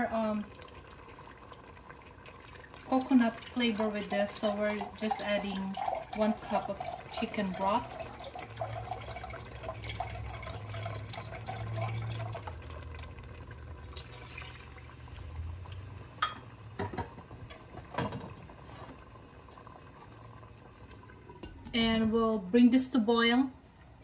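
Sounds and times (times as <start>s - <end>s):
broth pouring into a cup: 0.0s - 16.8s, 18.4s - 21.6s
liquid pouring into a pot: 0.0s - 21.8s.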